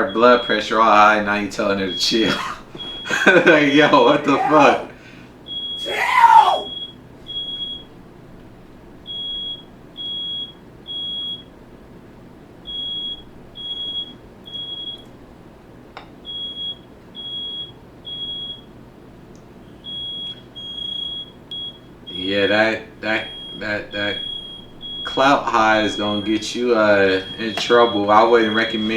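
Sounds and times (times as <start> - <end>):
smoke alarm beeping: 0.0 - 15.6, 16.2 - 28.9.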